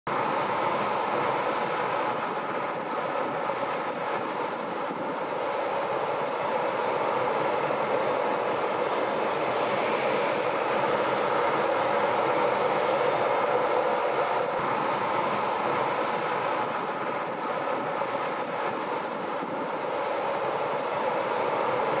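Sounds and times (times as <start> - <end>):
jet engine noise: 0.1 - 22.0.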